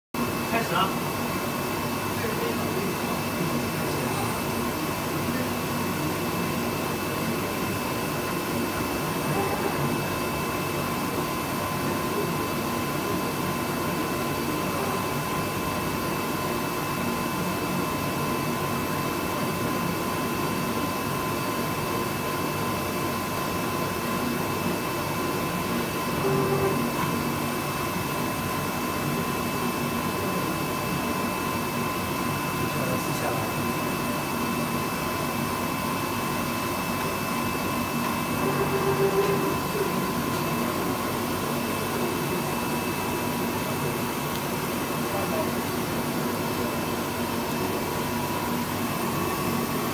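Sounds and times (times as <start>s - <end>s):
cutting plotter whirring with whine: 0.2s - 49.9s.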